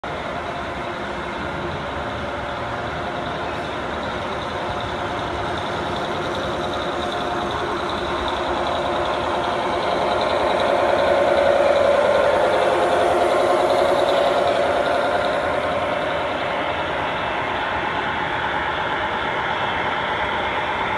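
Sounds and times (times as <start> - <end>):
model diesel engine sound: 0.0 - 20.9
wheels rumbling on track: 0.0 - 20.9.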